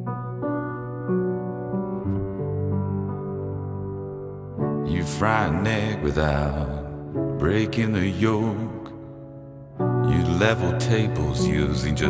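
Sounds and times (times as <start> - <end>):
slow instrumental chords: 0.0 - 12.0.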